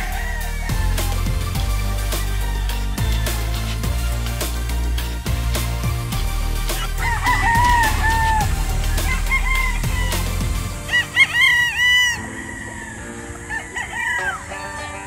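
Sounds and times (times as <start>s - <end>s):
rooster crowing: 0.0s - 3.8s, 6.6s - 15.0s
music with steady beat: 0.0s - 12.2s.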